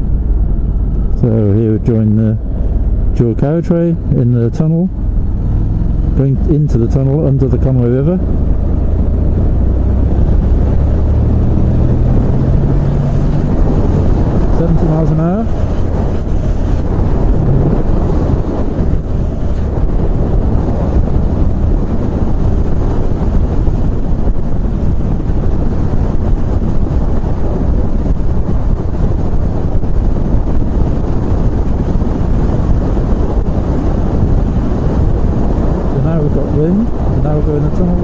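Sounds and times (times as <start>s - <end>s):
motorcycle engine rumble: 0.0s - 38.0s
road noise: 0.0s - 38.0s
wind rush and buffeting: 0.0s - 38.0s.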